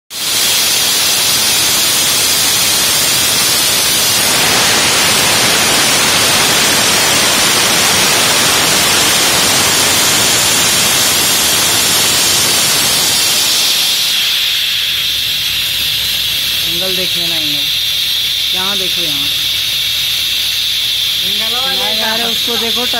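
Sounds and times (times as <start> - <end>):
steady loud hiss: 0.1 - 22.9.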